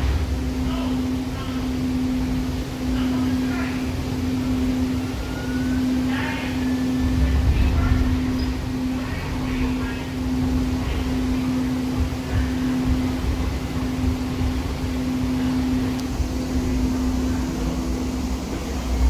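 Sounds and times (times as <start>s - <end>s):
low rumble: 0.0s - 19.0s
steady hum: 0.0s - 19.0s.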